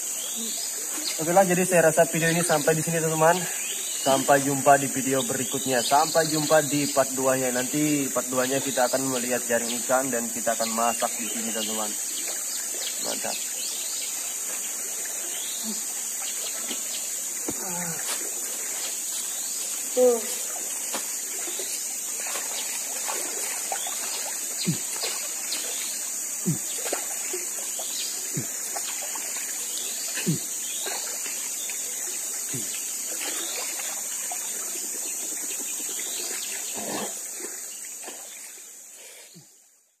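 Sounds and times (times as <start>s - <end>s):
river water flowing: 0.0s - 39.8s.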